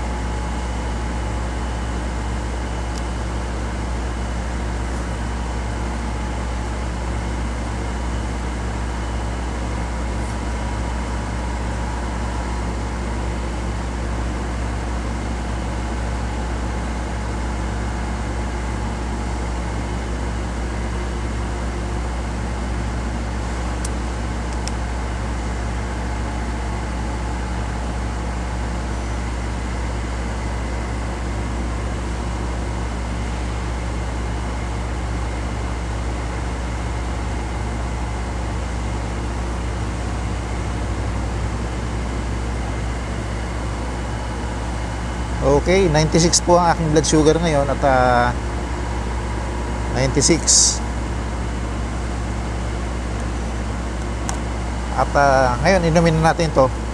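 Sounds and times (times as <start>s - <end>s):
low machine hum: 0.0s - 56.9s.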